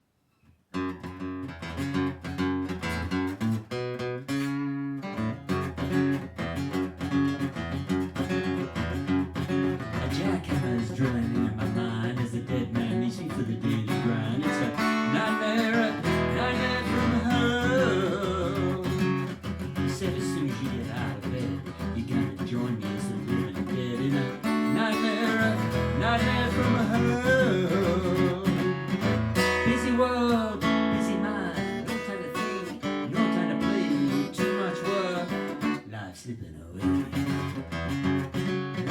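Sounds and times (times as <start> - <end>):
bending guitar melody line: 0.7 - 35.9, 36.8 - 38.9
strummed acoustic guitar chords: 0.8 - 35.8, 36.8 - 38.9.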